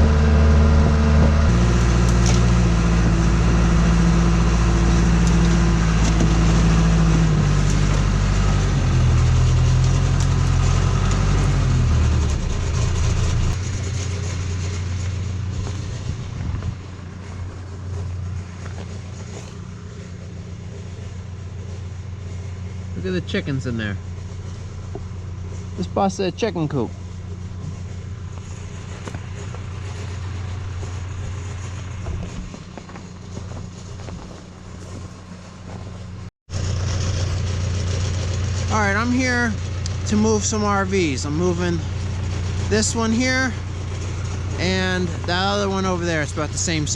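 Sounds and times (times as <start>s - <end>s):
backhoe diesel engine running: 0.0s - 46.9s.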